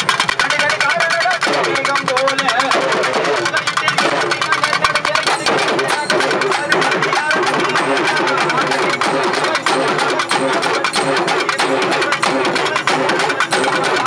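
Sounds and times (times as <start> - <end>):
crowd voices: 0.0 - 14.0
fast procession drumming: 0.0 - 14.0.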